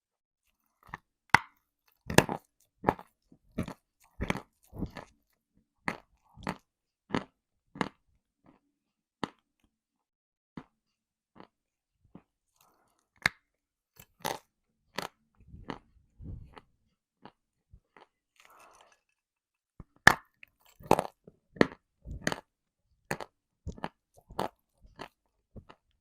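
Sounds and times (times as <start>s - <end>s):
person biting and chewing: 0.5s - 8.6s, 10.6s - 19.2s, 19.8s - 26.0s.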